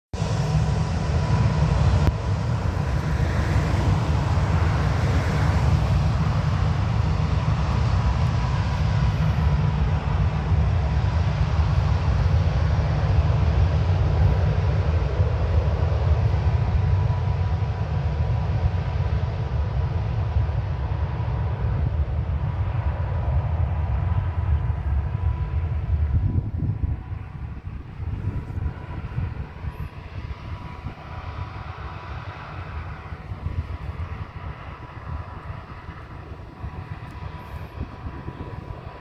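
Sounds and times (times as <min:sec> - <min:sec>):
jet engines running: 0:00.2 - 0:39.0.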